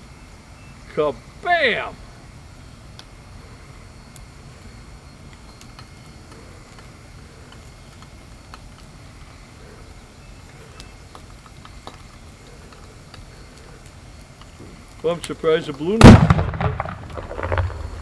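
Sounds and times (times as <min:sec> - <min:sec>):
fire crackling and popping: 0:00.0 - 0:18.0
fire low rumble: 0:00.0 - 0:18.0.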